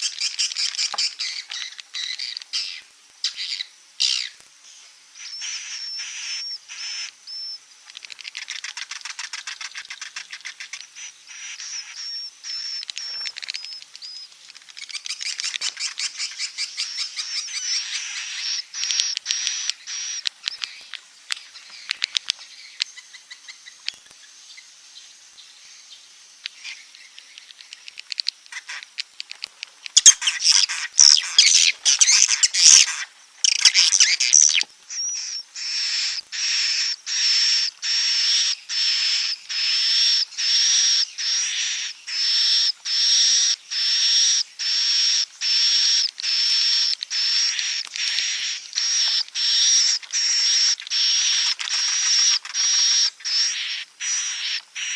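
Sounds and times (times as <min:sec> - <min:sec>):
swiftlet calls twittering: 0:00.0 - 0:24.7, 0:25.4 - 0:54.9.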